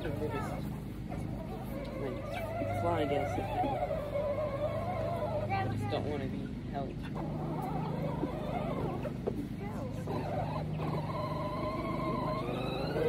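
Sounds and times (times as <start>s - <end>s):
chicks calling softly: 0.0s - 13.0s.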